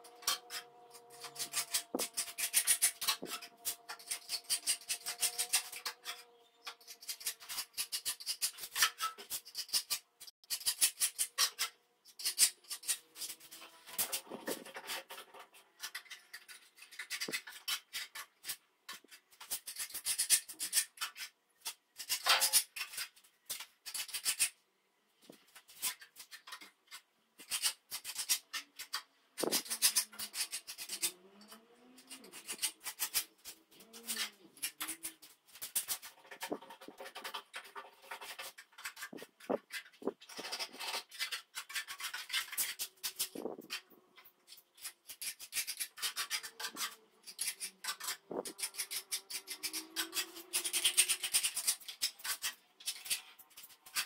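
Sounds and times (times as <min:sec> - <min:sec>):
scraper rasping on plaster: 0:00.0 - 0:24.6, 0:27.4 - 0:54.0.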